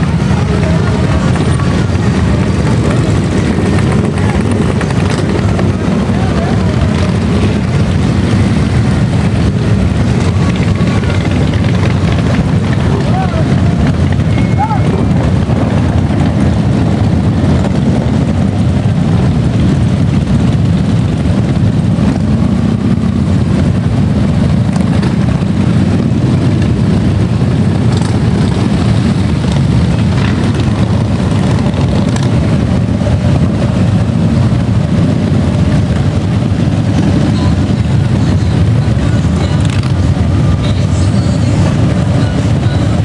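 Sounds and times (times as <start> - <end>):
motorcycles riding slowly past: 0.0 - 43.0.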